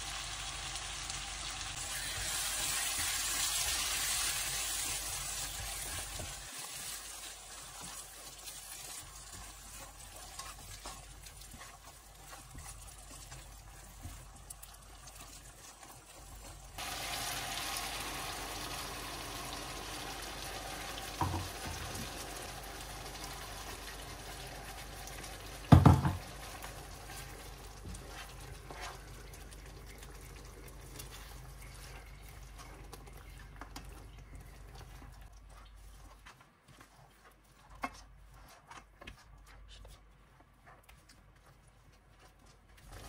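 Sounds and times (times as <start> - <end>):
curry sizzling in a pan: 0.0 - 36.2, 42.8 - 43.0
spatula stirring: 1.7 - 18.0, 19.8 - 43.0.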